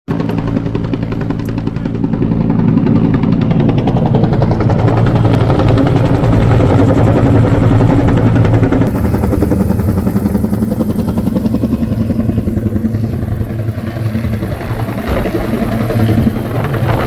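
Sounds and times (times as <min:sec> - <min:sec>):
helicopter rotor chopping: 0:00.1 - 0:17.0.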